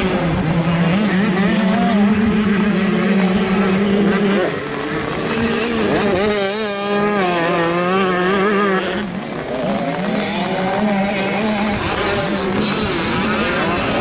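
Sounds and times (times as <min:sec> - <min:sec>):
motocross bikes revving: 0:00.0 - 0:14.0.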